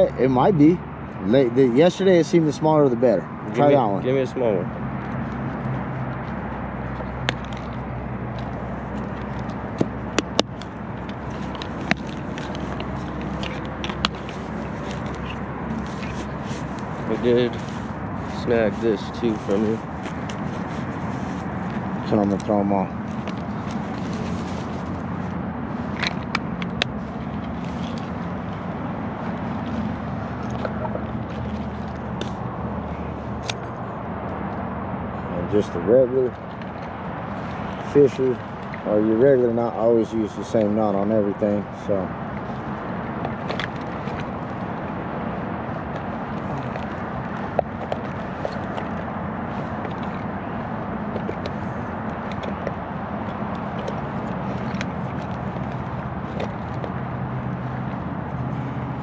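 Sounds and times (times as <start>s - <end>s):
city traffic hum: 0.0s - 59.0s
low outdoor rumble: 0.0s - 59.0s.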